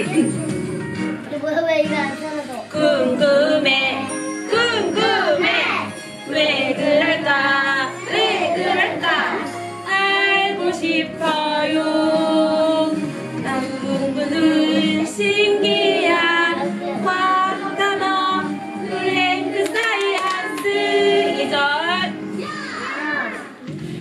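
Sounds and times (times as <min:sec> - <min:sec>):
children and women singing: 0:02.7 - 0:22.2.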